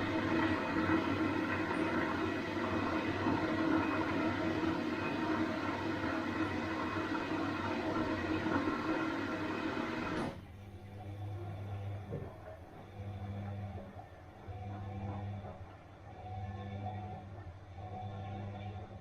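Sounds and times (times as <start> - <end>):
washing machine whirring: 0.0 - 19.0.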